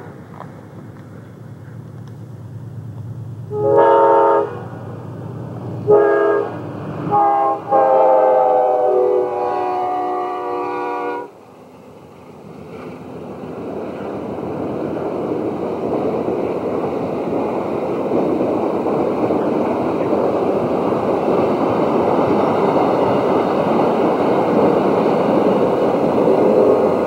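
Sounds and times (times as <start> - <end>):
train cars rushing past: 0.0 - 27.0.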